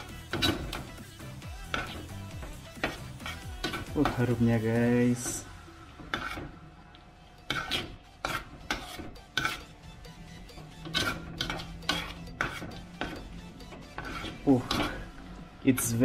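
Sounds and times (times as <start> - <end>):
metal spoon scraping a pan: 0.0 - 6.7, 7.3 - 16.0.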